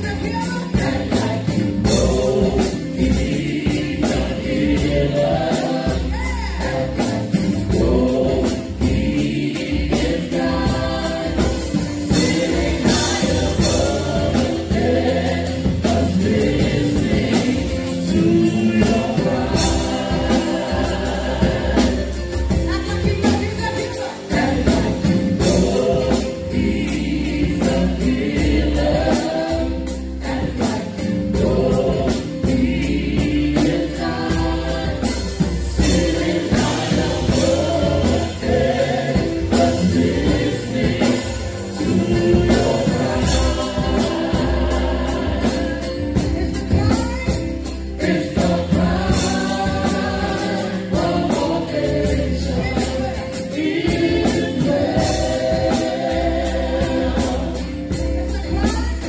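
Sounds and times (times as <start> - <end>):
group singing gospel in harmony: 0.0 - 59.0
steady beat: 0.0 - 59.0.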